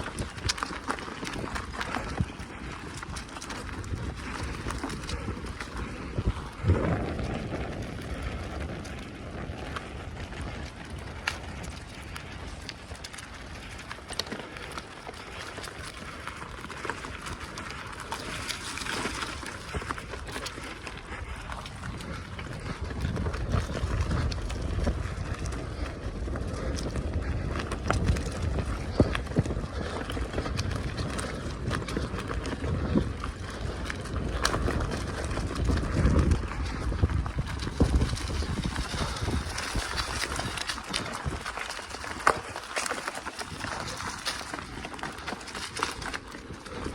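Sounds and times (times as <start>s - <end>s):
bicycle tyres on rough track: 0.0s - 46.9s.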